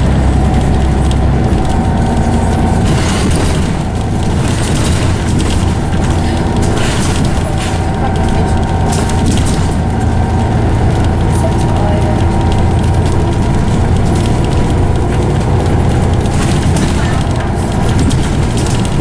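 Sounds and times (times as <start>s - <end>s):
bus engine rumble: 0.0s - 19.0s
gearbox whine: 0.0s - 19.0s
light rattling: 0.0s - 19.0s.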